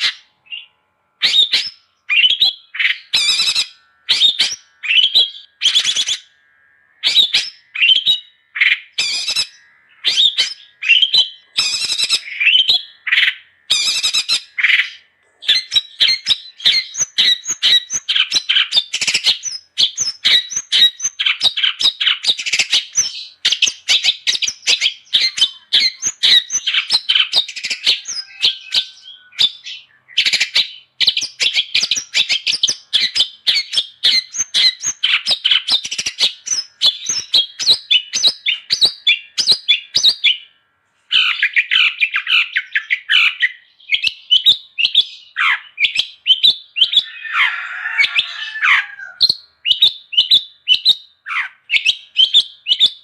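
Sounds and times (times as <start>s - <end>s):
shrike calling: 0.0s - 53.0s.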